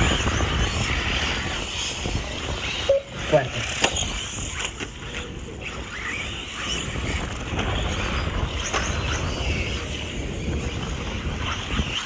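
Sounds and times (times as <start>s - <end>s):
rc buggy motors whining: 0.0s - 12.0s
wind rumbling on microphone: 0.0s - 12.0s.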